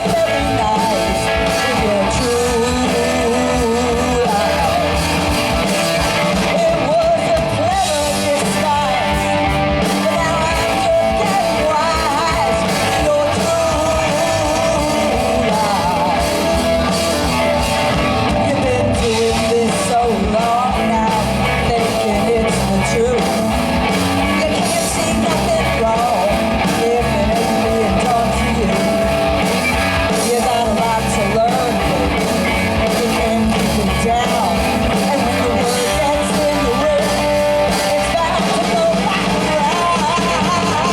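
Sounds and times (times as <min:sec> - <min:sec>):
person singing: 0:00.0 - 0:40.9
rock band playing: 0:00.0 - 0:40.9.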